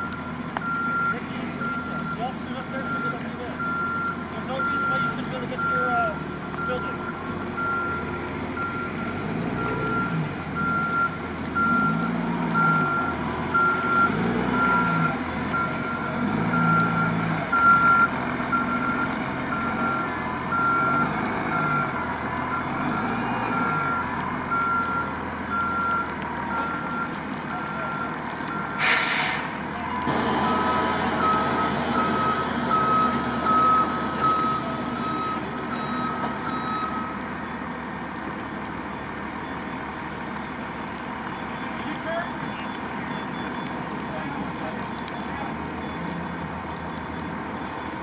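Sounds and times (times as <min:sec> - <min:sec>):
truck engine rumble: 0:00.0 - 0:48.0
truck reversing alarm beeping: 0:00.0 - 0:48.0.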